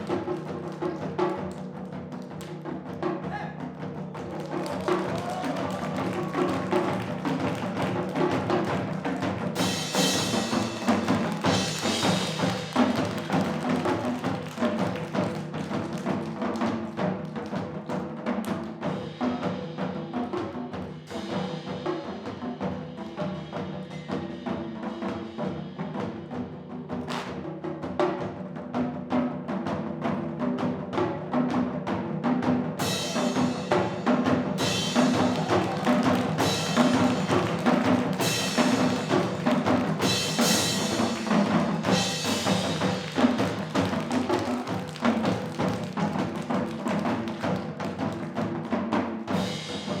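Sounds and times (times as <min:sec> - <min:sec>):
fast drumming: 0:00.0 - 0:50.0.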